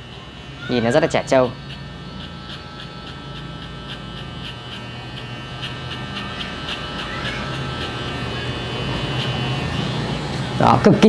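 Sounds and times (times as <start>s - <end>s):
electric hair clipper humming: 0.0s - 11.0s.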